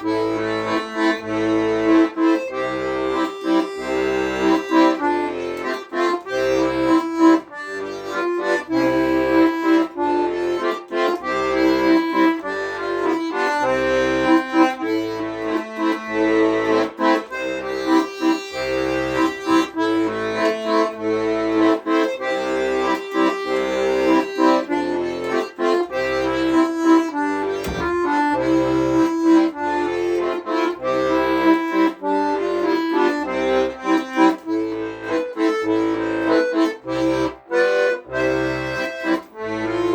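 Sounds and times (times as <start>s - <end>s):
accordion playing: 0.0s - 39.9s.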